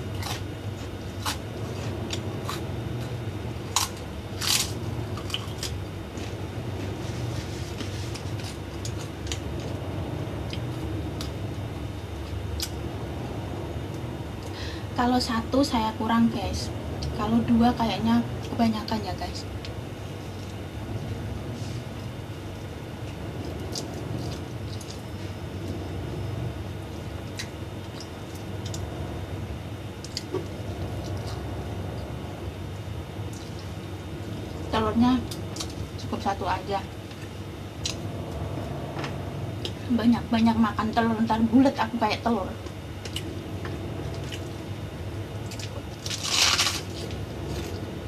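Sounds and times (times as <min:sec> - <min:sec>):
low background hum: 0:00.0 - 0:48.0.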